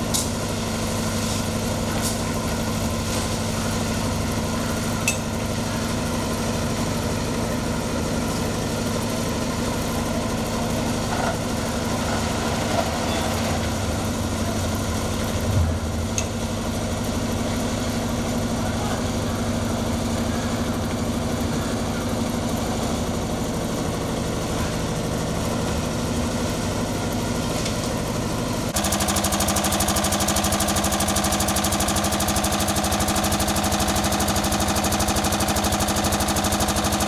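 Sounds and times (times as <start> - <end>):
concrete mixer engine humming: 0.0 - 37.0.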